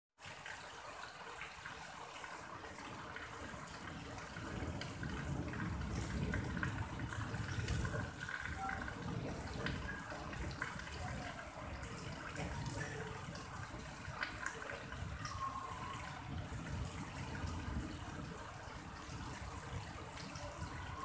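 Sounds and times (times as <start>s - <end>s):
steady rain falling: 0.2s - 21.0s
water drips and ticks: 0.2s - 21.0s.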